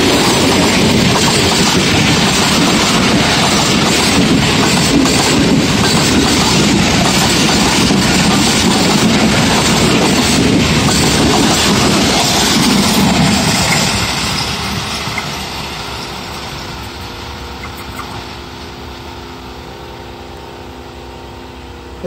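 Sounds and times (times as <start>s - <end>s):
train wheels rolling on rails: 0.0s - 21.6s.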